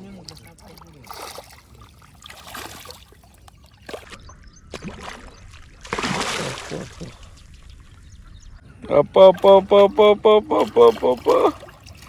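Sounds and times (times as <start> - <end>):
water splashing: 0.0 - 8.1, 9.1 - 12.0.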